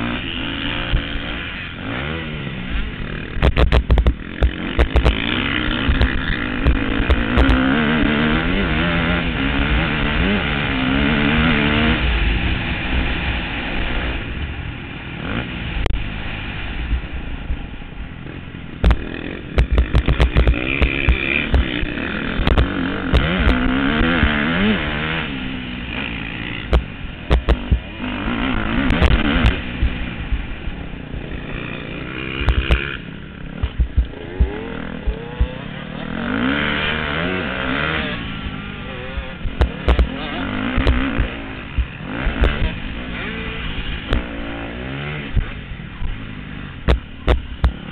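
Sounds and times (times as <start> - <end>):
motocross engines revving: 0.0 - 47.9.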